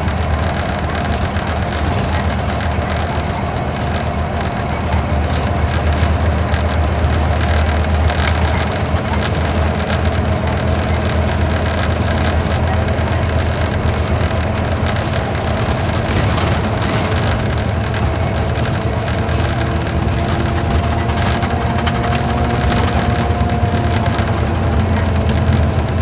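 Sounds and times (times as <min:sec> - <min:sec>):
bus diesel engine humming: 0:00.0 - 0:26.0
tyre and road noise: 0:00.0 - 0:26.0.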